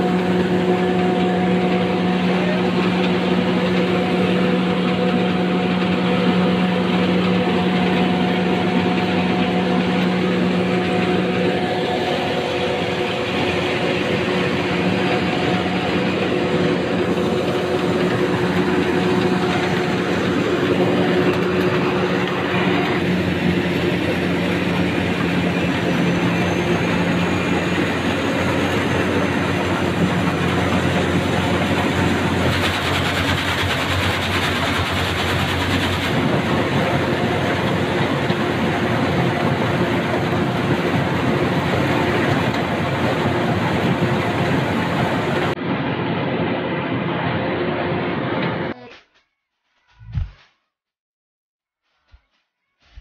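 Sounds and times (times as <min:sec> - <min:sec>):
mechanical clatter of harvester: 0:00.0 - 0:45.3
combine harvester engine drone: 0:00.0 - 0:48.8.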